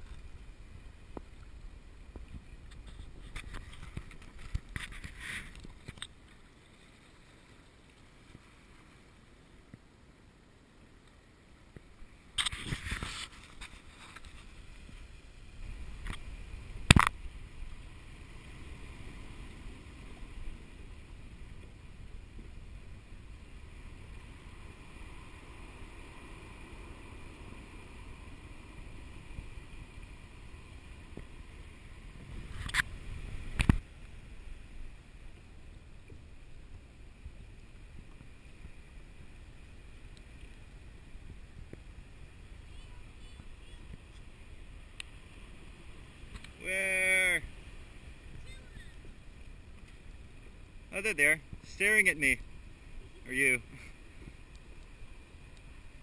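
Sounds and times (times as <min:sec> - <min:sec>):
water lapping around kayak: 0:00.0 - 0:56.0.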